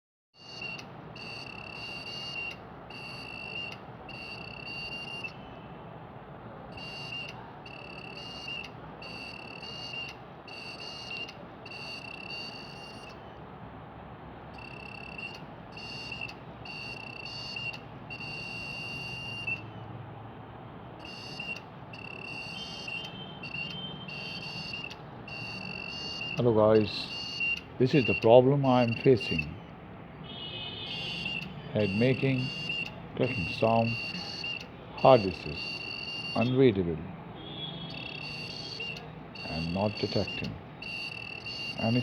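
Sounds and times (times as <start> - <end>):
hard drive beeping: 0.4 - 5.5, 6.7 - 13.4, 14.6 - 19.8, 21.0 - 29.7, 30.8 - 36.6, 37.6 - 42.0.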